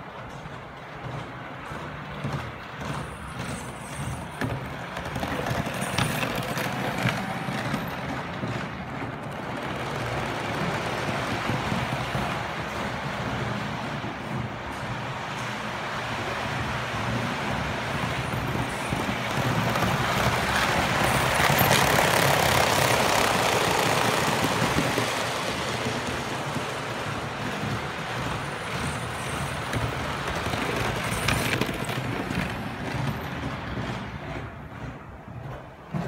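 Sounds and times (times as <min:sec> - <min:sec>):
model train rolling rattle: 0:00.0 - 0:36.0
wheels clicking over rail joints: 0:00.0 - 0:36.0.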